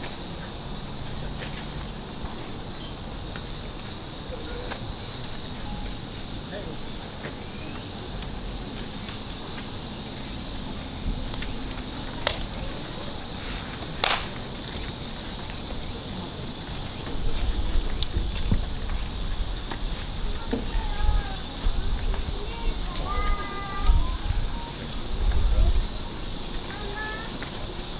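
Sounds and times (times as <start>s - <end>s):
insects chirring: 0.0s - 27.9s.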